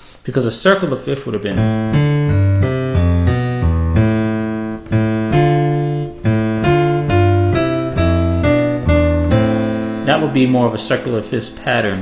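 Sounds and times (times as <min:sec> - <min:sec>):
piano chords: 0:01.5 - 0:12.0.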